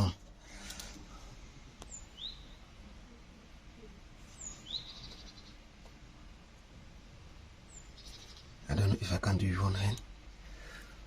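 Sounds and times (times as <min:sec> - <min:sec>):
faint low background noise: 0:00.0 - 0:11.0.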